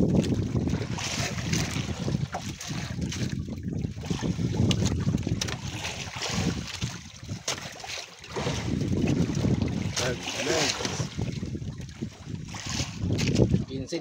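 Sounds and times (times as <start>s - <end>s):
sea and boat noise: 0.0s - 14.0s
wind rumbling on microphone: 0.0s - 14.0s.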